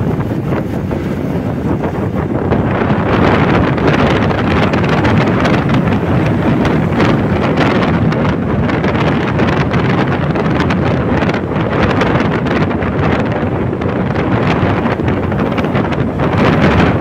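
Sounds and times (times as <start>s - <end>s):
scooter road and engine noise: 0.0s - 17.0s
wind rush on microphone: 0.0s - 17.0s.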